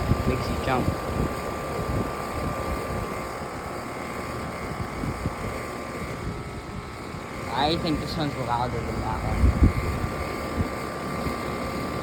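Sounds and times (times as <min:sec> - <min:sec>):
air conditioner fans whirring: 0:00.0 - 0:12.0.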